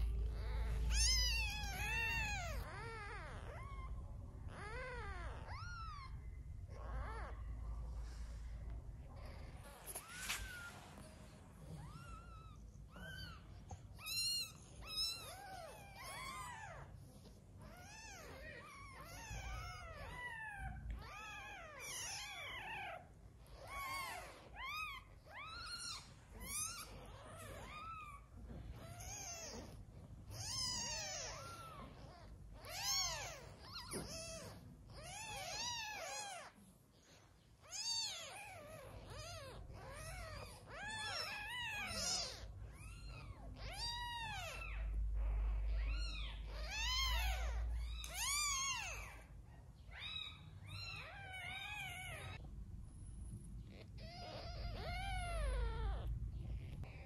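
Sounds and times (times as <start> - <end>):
kittens mewing: 0.0 - 52.5, 53.6 - 57.0.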